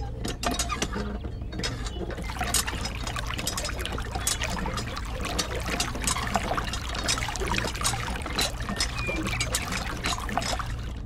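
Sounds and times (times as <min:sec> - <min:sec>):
hand water pump clicking: 0:00.2 - 0:11.0
water trickling: 0:01.8 - 0:11.0.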